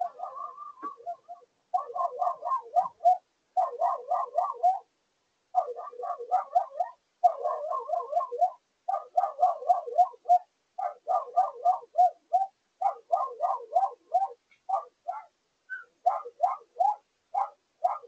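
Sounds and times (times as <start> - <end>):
small dog barking: 0.0 - 4.9, 5.6 - 18.0.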